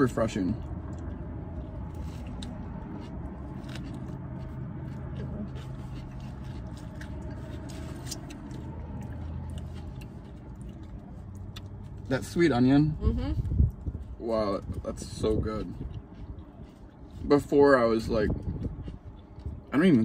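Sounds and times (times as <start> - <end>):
low hum in car cabin: 0.0 - 20.0
people chewing sandwiches: 0.0 - 20.0.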